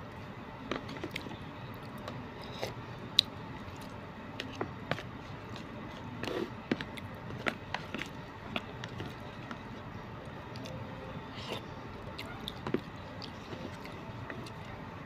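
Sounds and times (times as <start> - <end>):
steady background hum: 0.0 - 15.0
chewing: 0.7 - 14.8.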